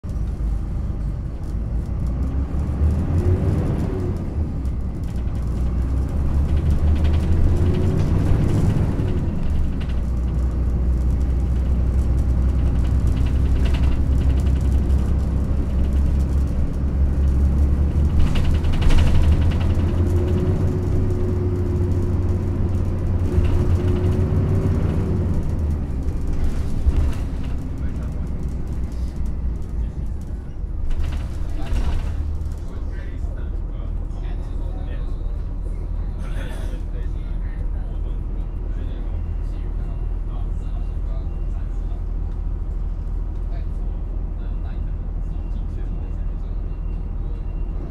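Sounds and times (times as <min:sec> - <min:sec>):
bus engine rumbling: 0:00.0 - 0:47.9.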